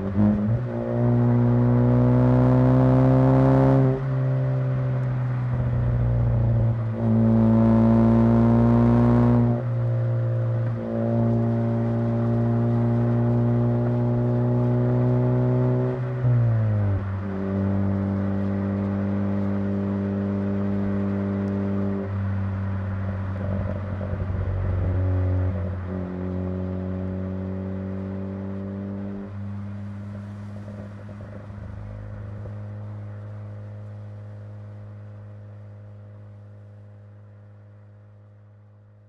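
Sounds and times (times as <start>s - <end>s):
car engine droning: 0.0s - 39.0s.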